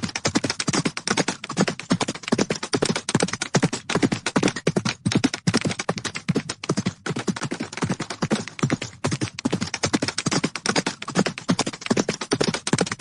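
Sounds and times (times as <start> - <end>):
galloping horse hooves: 0.0 - 13.0.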